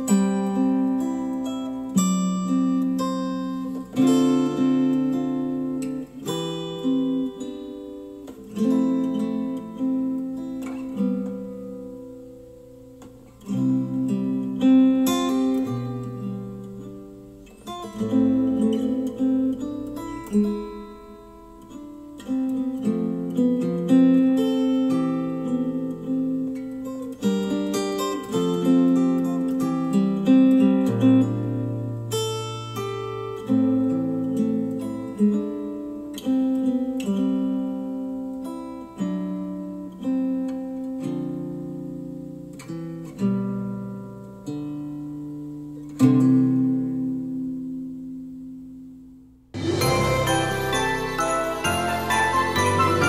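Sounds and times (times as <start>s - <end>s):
acoustic guitar music over speakers: 0.0s - 53.0s.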